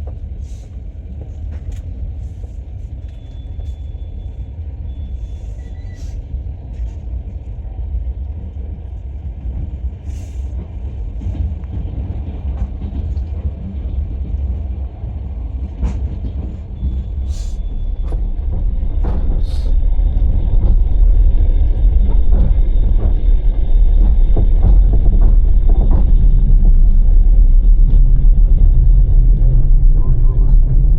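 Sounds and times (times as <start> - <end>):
train wheels rumbling: 0.0 - 30.9.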